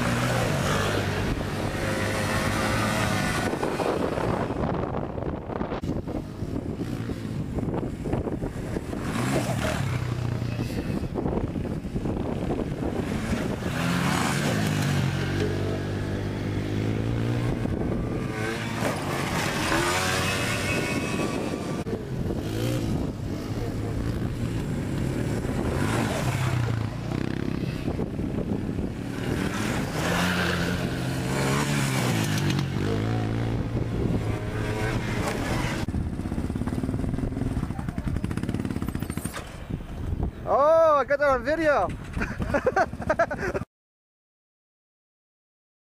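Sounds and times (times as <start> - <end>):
atv engines revving: 0.0 - 43.6.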